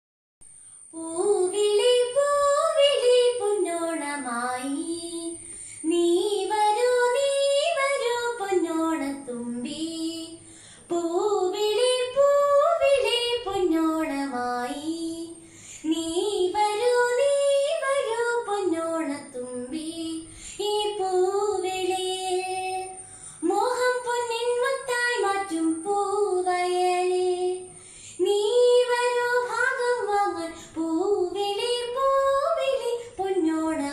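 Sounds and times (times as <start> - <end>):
girl singing unaccompanied: 0.8 - 33.9.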